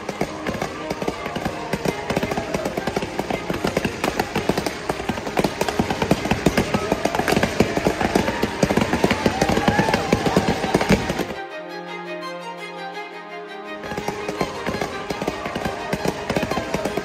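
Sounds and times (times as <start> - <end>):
fireworks bangs and crackles: 0.0 - 11.4, 13.8 - 17.0.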